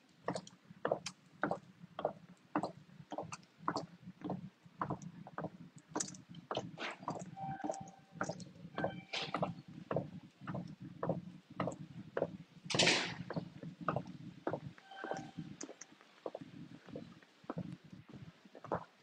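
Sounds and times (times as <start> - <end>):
footsteps on a hard floor: 0.3 - 18.9.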